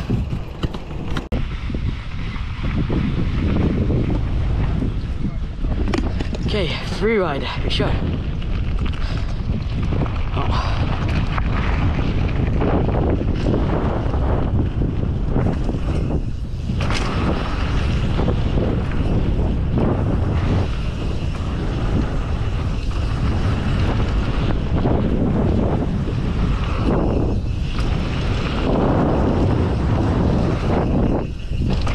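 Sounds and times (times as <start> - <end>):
bike knocks and rattles: 0.0 - 6.8, 8.1 - 31.9
tyres rumbling on dirt trail: 0.0 - 31.9
wind on microphone: 0.0 - 31.9.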